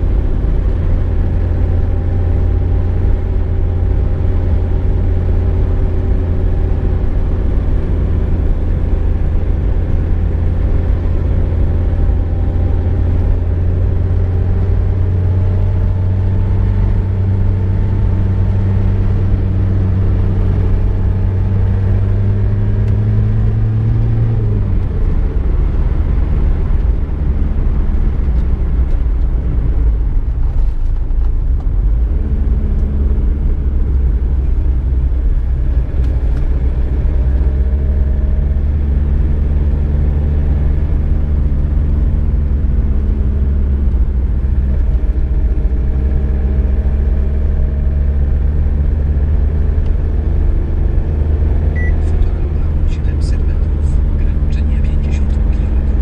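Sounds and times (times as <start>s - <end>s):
car engine humming: 0.0s - 56.0s
road noise: 0.0s - 56.0s.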